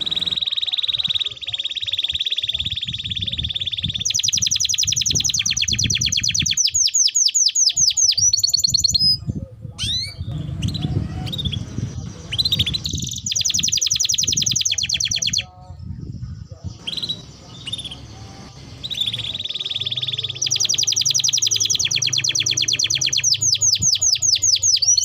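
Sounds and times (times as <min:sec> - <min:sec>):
canary trilling: 0:00.0 - 0:09.2, 0:09.8 - 0:15.6, 0:16.6 - 0:25.0
canary chirps: 0:00.0 - 0:25.0.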